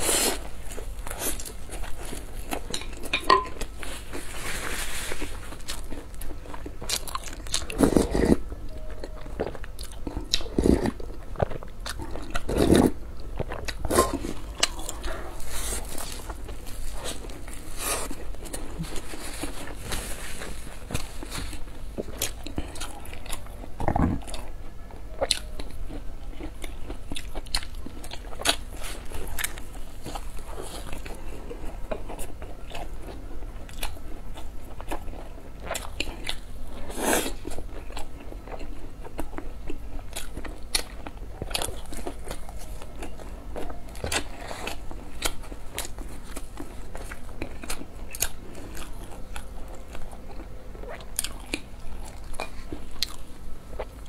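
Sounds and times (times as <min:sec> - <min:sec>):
chewing fried flatbread: 0:00.0 - 0:54.0.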